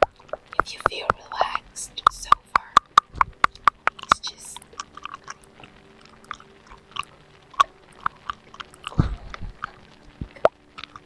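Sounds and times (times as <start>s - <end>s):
tongue clicks: 0.0s - 11.0s.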